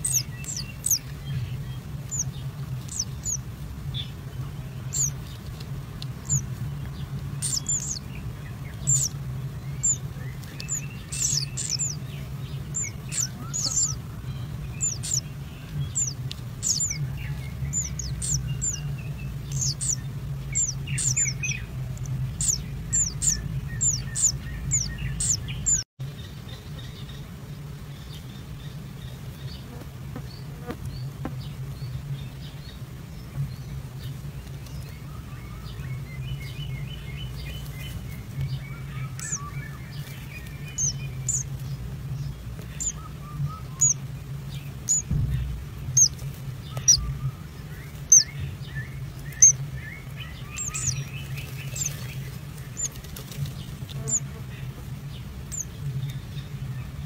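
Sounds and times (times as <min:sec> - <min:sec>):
bird chirping: 0:00.0 - 0:57.0
steady low hum: 0:00.0 - 0:57.0.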